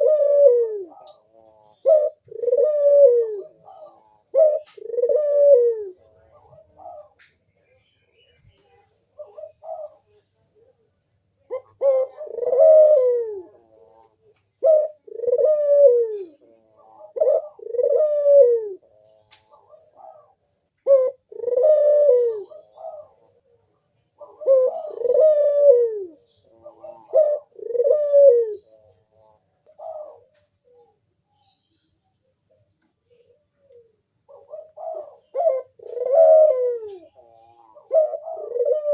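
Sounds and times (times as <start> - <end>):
dove cooing: 0.0 - 31.6, 32.3 - 38.9.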